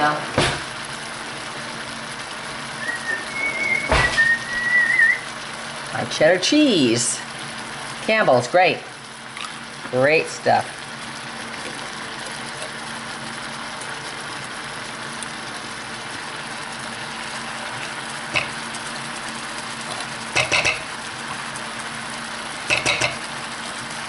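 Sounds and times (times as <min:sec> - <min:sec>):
water simmering and bubbling: 0:00.7 - 0:24.0.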